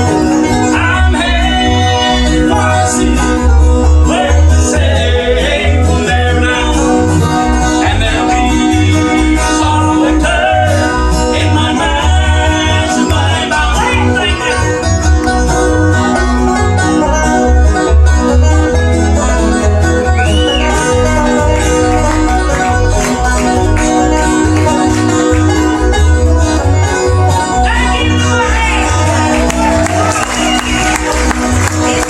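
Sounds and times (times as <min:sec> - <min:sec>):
banjo: 0:00.0 - 0:32.0
bluegrass band playing: 0:00.0 - 0:32.0.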